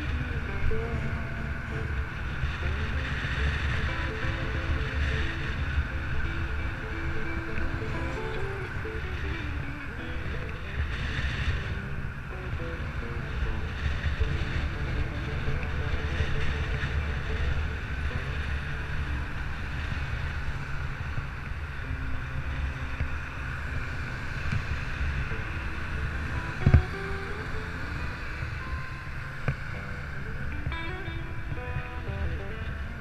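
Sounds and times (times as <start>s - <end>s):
road and traffic noise: 0.0s - 33.0s
wind buffeting microphone: 0.0s - 33.0s.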